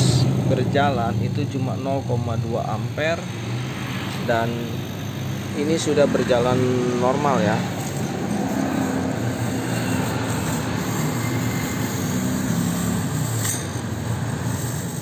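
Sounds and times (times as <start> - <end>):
refrigerator compressor humming: 0.0 - 15.0.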